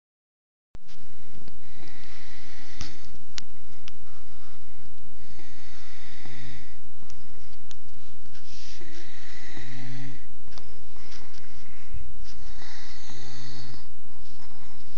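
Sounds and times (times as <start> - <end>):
person snoring: 1.2 - 7.6, 8.3 - 14.9.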